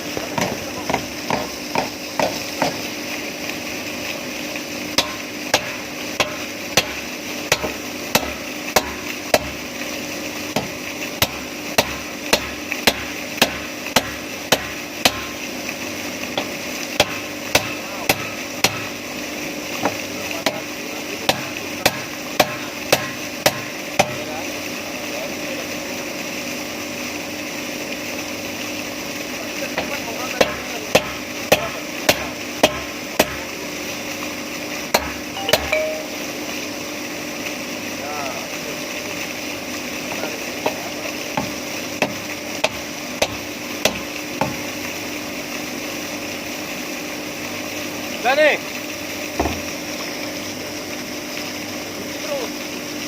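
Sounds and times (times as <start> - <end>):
steady machinery hum: 0.0 - 53.0.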